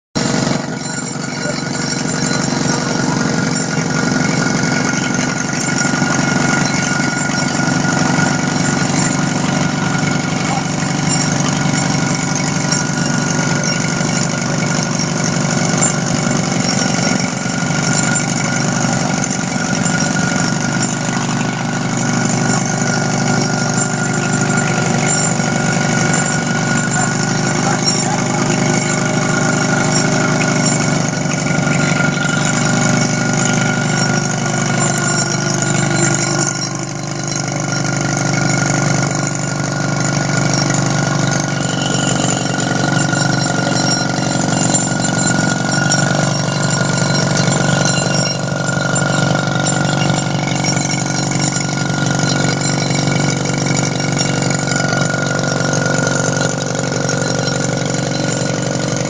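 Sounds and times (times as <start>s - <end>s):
rock drill rattling: 0.2s - 59.0s.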